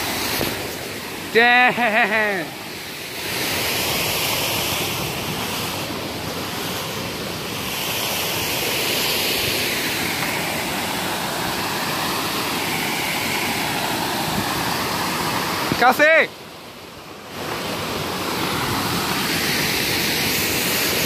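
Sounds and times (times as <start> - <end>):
water rushing over dam: 0.0 - 21.0.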